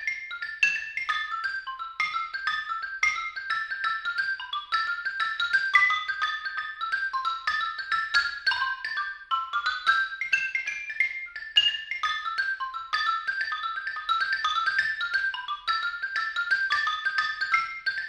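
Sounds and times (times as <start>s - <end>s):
xylophone ragtime tune: 0.0s - 18.0s.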